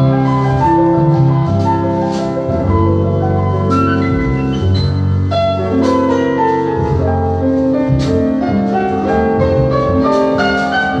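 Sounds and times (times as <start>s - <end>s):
piano music with bass line: 0.0s - 11.0s.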